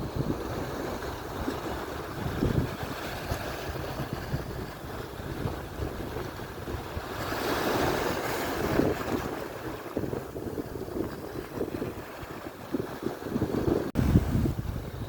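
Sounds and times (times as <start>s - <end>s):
surf washing onto shore: 0.0s - 15.0s
wind buffeting microphone: 0.0s - 15.0s.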